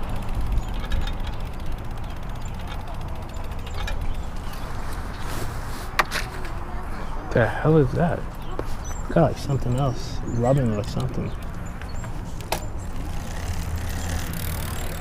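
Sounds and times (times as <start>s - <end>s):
bicycle freehub ticking: 0.0s - 5.2s, 7.8s - 15.0s
road rumble: 0.0s - 15.0s
wind: 0.0s - 15.0s.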